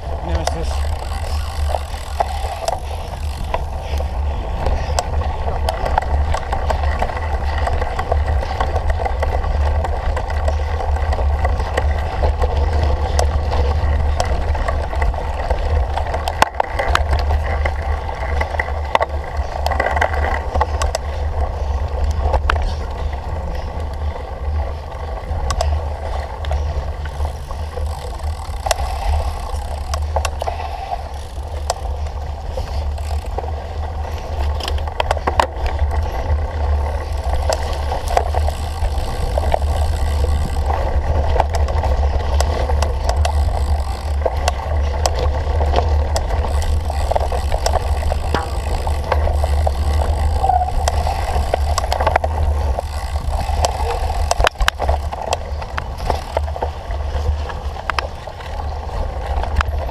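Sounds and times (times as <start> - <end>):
bicycle tyre noise: 0.0 - 59.9
bike rattles and clicks: 0.0 - 59.9
wind rumble on microphone: 0.0 - 59.9.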